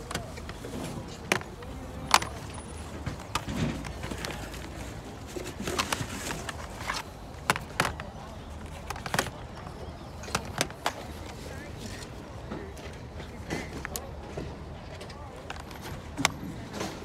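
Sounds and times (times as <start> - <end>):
clicks and knocks of goods handled: 0.0 - 17.0.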